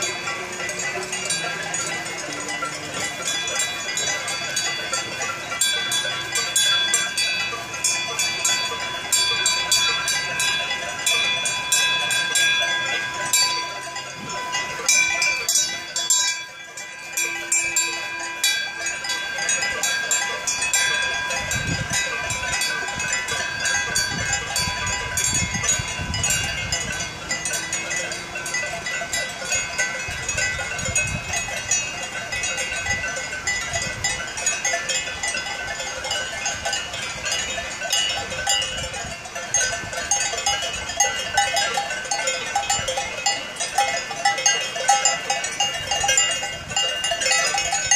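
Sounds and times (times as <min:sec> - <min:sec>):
cowbells ringing and clanking: 0:00.0 - 0:47.9.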